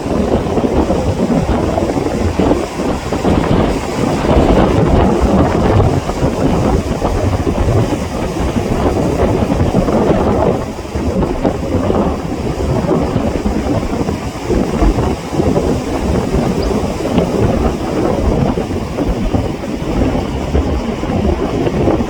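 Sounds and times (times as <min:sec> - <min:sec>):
sea waves breaking on shore: 0:00.0 - 0:22.0
wind buffeting microphone: 0:00.0 - 0:22.0.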